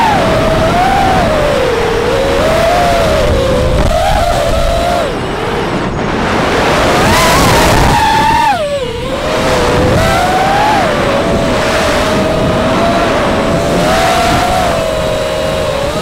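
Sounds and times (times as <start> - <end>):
drone motors whining: 0.0 - 16.0
wind rushing: 0.0 - 16.0.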